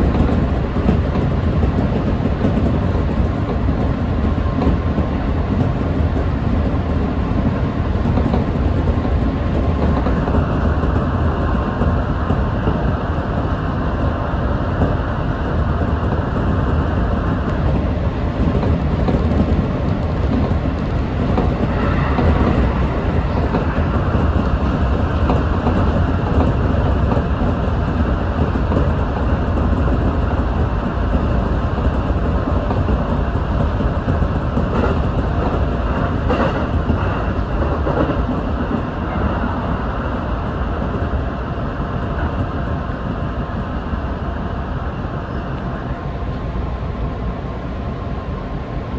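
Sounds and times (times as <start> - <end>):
train wheels rumbling: 0.0 - 48.9.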